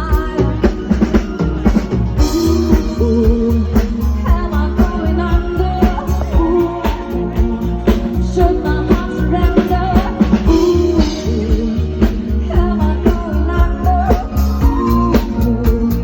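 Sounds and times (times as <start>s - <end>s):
heavy bass: 0.0s - 16.0s
live band music: 0.0s - 16.0s
person singing: 0.0s - 16.0s
steady drum beat: 0.0s - 16.0s.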